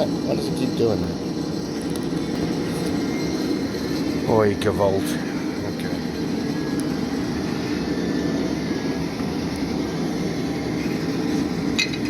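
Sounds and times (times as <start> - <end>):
forge roaring: 0.0 - 12.0.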